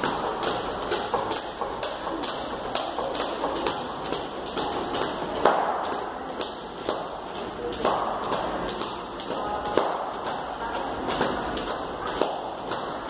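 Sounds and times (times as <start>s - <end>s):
battle ropes slapping tiled floor: 0.0s - 13.0s.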